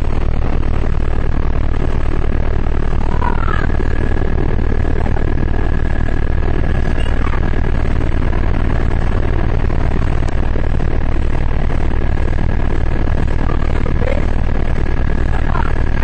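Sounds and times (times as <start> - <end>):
helicopter rotor and engine: 0.0 - 16.0
high turbine whine: 0.0 - 16.0.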